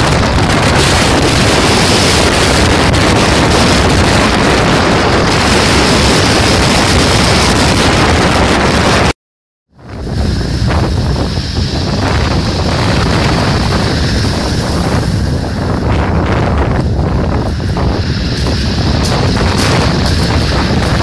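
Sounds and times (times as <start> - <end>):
sea surf: 0.0 - 9.1, 9.8 - 21.0
wind buffeting microphone: 0.0 - 9.1, 9.7 - 21.0.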